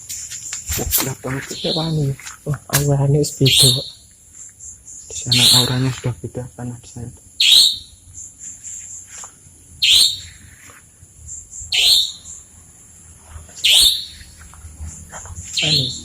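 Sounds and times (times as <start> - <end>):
bird calling: 0.2 - 6.2, 7.4 - 12.5, 13.4 - 16.0.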